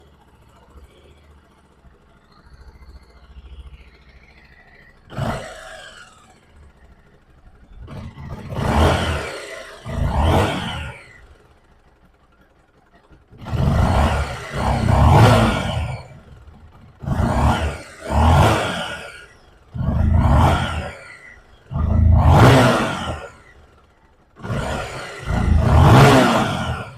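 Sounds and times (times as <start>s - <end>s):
motorcycle engine idling and revving: 0.0s - 26.9s.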